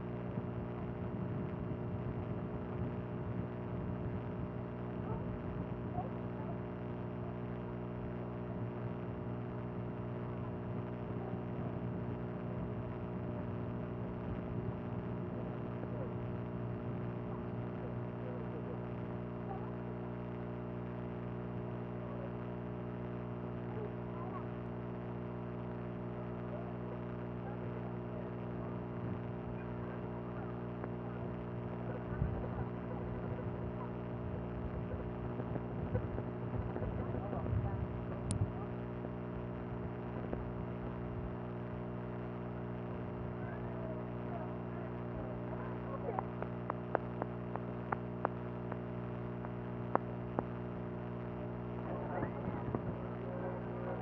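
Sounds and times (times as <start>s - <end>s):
machine hum: 0.0s - 54.0s.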